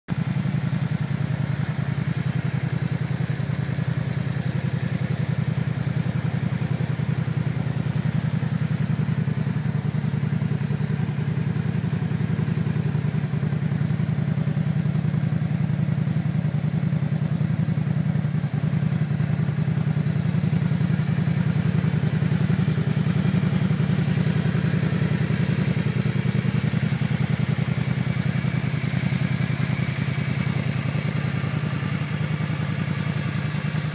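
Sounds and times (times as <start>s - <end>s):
motorcycle engine running steadily: 0.1s - 33.9s.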